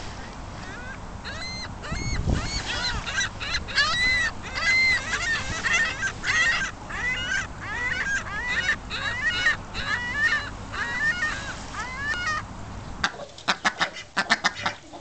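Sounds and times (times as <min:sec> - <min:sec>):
goose honking: 0:00.2 - 0:15.0.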